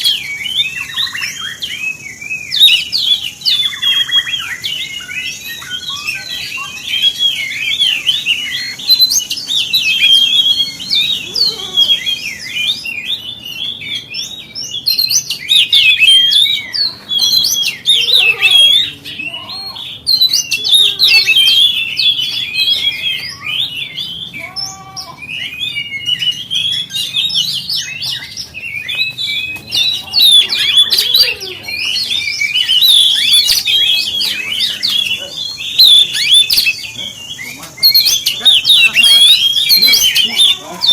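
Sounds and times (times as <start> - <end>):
songbird whistles and chirps: 0.0 - 40.9.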